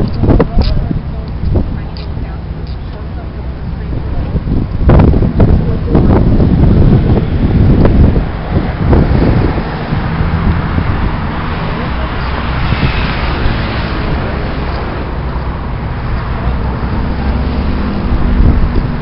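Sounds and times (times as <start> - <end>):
background voices: 0.0 - 19.0
road noise: 0.0 - 19.0
vehicle engine hum: 0.0 - 19.0
wind rushing on microphone: 0.0 - 19.0.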